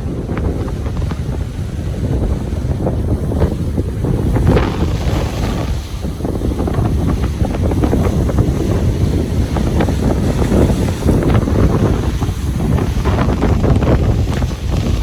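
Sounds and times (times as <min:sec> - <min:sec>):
ocean waves washing onto beach: 0:00.0 - 0:15.0
wind noise on microphone: 0:00.0 - 0:15.0.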